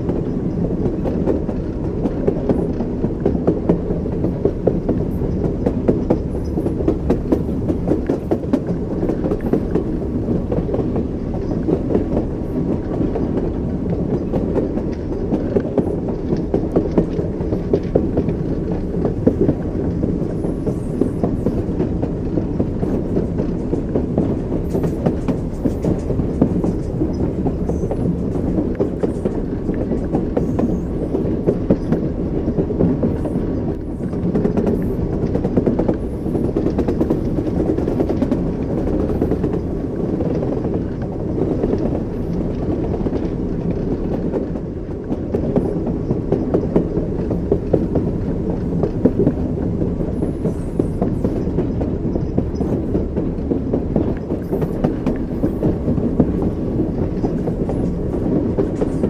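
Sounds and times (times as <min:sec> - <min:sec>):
train rumble: 0:00.0 - 0:59.0
train wheels clickety-clack: 0:00.0 - 0:59.0.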